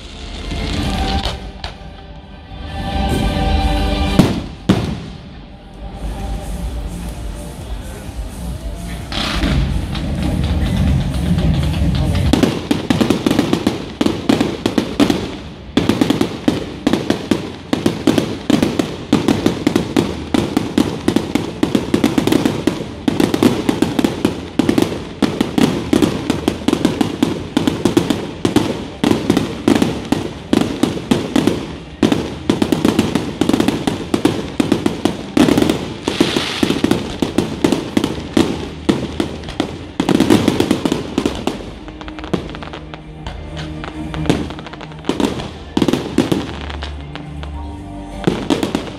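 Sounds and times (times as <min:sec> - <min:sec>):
fireworks bangs and crackles: 0:00.0 - 0:01.9, 0:03.0 - 0:48.9.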